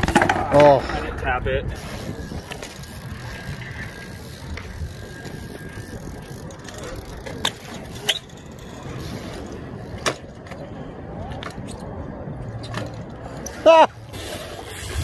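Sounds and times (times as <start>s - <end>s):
bike tyres rolling on concrete: 0.0s - 15.0s.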